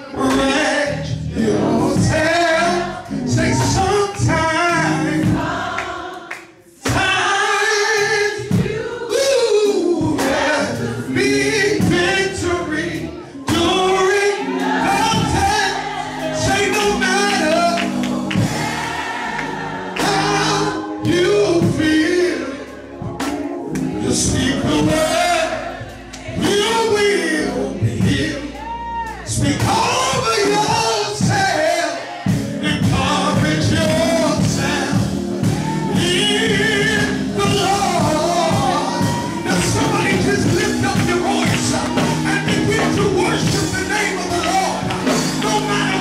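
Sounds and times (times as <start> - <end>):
group singing gospel: 0.0 - 46.0.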